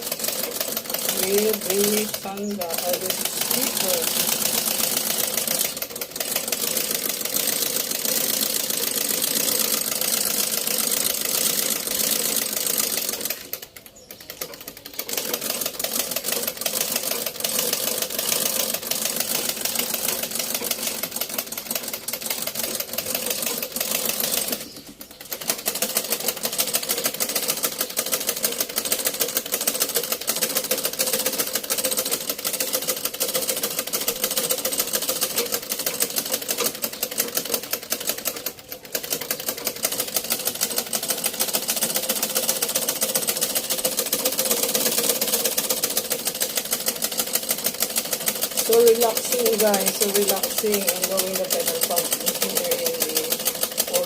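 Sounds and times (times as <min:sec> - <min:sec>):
treadle sewing machine clatter: 0:00.0 - 0:54.0.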